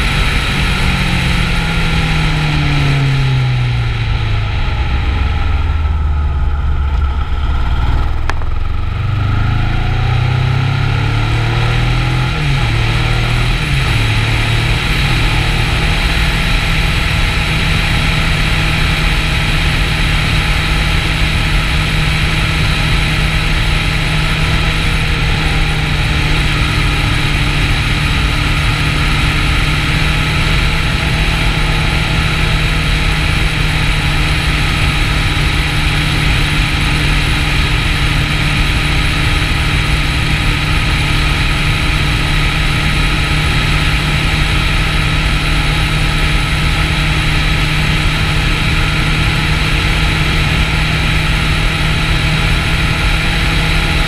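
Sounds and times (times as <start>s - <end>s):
motorcycle engine cruising: 0.0s - 54.0s
wind and road noise: 0.0s - 54.0s.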